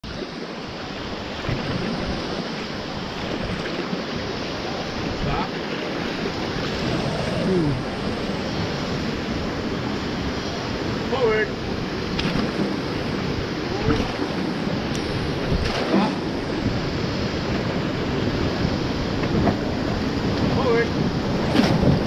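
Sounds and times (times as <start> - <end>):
whitewater river rushing: 0.1 - 22.0.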